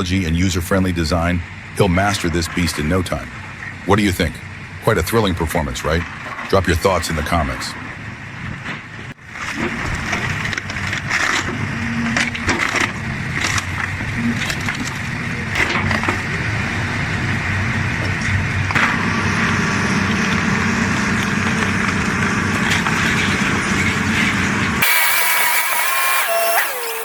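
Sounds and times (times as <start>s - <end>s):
excavator engine under load: 1.6s - 27.0s.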